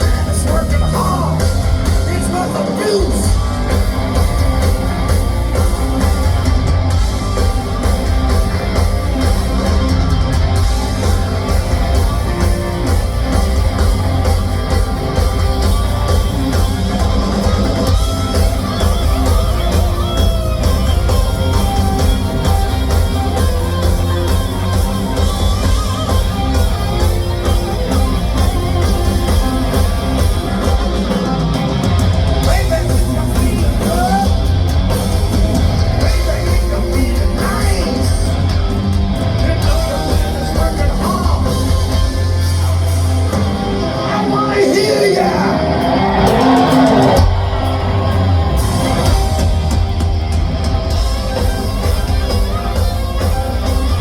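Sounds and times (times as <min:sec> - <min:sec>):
hard rock band playing: 0:00.0 - 0:54.0
heavy bass: 0:00.0 - 0:54.0.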